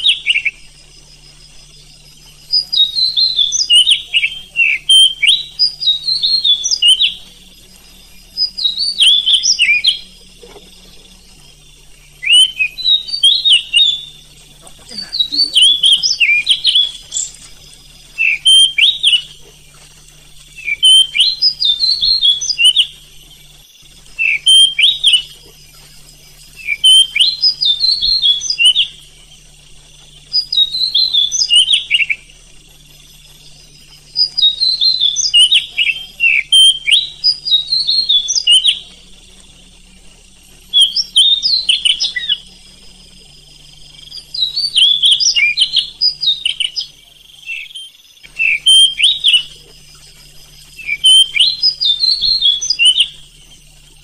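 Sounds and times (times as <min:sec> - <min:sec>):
bird singing whistled phrases: 0:00.0 - 0:00.8, 0:02.0 - 0:10.2, 0:12.0 - 0:19.6, 0:20.5 - 0:23.1, 0:24.1 - 0:25.5, 0:26.5 - 0:29.2, 0:30.2 - 0:32.4, 0:33.3 - 0:39.1, 0:40.7 - 0:42.7, 0:43.9 - 0:54.0.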